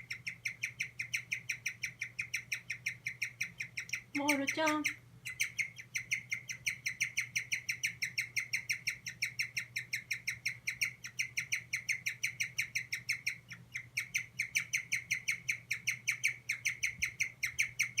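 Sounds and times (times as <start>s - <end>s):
guinea pig squeaking: 0.0s - 18.0s.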